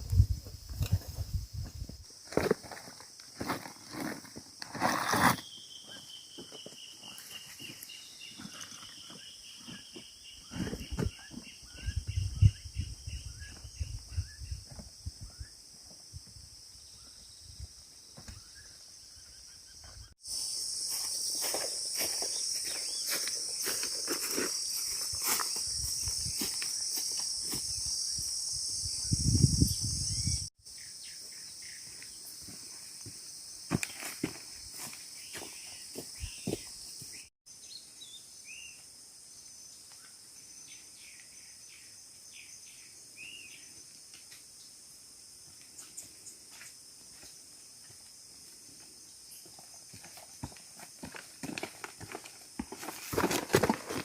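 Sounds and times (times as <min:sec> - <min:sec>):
insect drone: 0:00.0 - 0:54.0.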